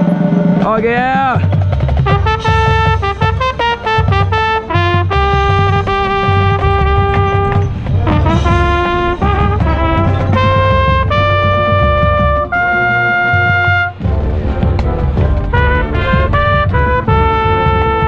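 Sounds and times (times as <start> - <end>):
marching band playing: 0.0 - 18.0
trumpet playing: 2.0 - 18.0.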